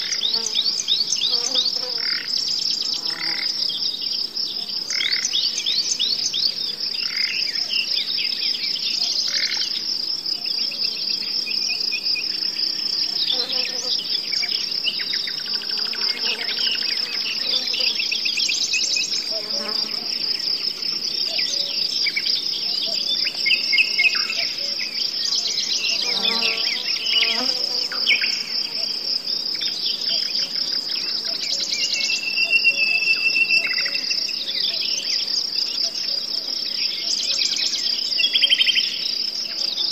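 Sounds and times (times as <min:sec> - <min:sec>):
high-pitched insect trill: 0:00.0 - 0:39.9
songbirds chirping: 0:00.0 - 0:39.9.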